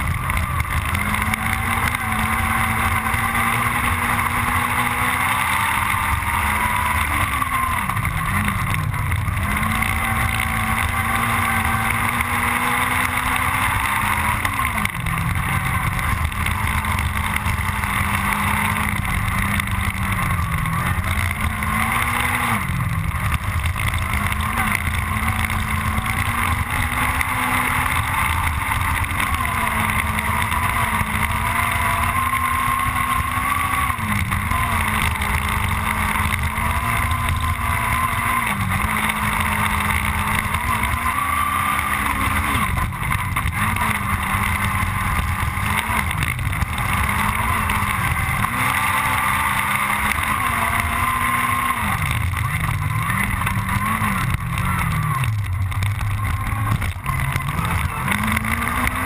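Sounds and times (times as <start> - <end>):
rally car engine revving hard: 0.0 - 59.0.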